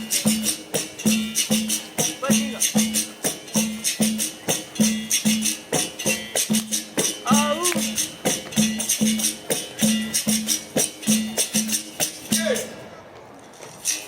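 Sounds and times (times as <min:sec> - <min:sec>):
pandeiro jingles: 0:00.0 - 0:12.8.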